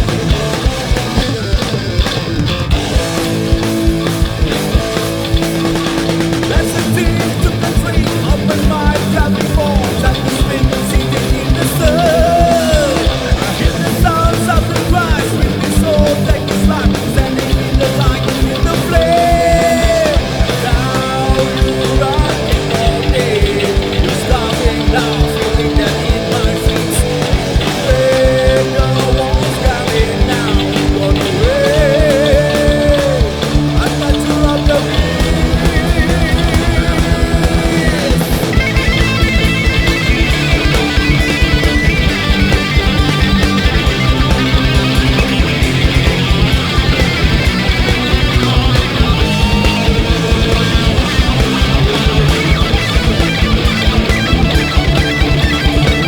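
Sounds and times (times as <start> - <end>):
driving drum beat: 0.0 - 56.0
electric guitars: 0.0 - 56.0.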